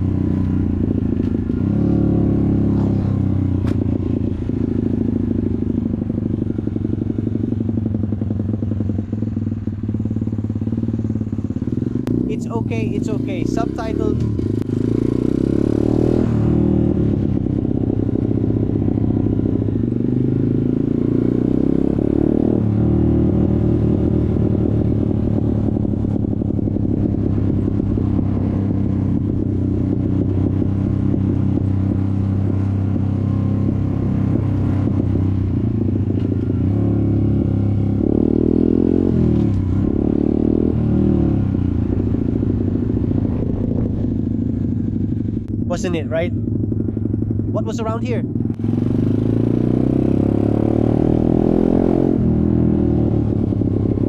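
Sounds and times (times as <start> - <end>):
off-road motorcycle engine: 0.0 - 54.0.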